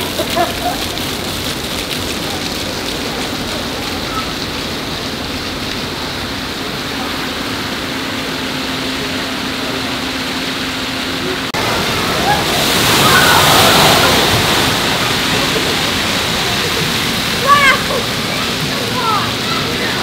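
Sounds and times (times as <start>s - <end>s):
water splattering from fountains: 0.0s - 20.0s.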